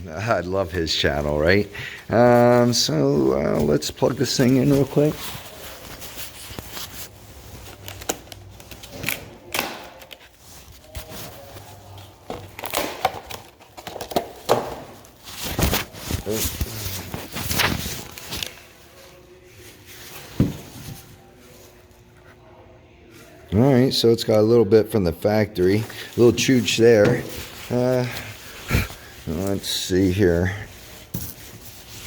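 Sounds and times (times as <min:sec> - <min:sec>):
crinkling and rustling: 0:00.6 - 0:22.2, 0:25.6 - 0:32.0.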